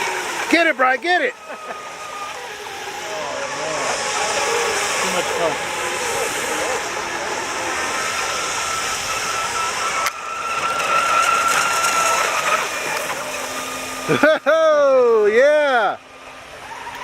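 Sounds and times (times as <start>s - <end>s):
high-pitched motor whine: 0.0s - 17.0s
noisy rush: 0.0s - 17.0s.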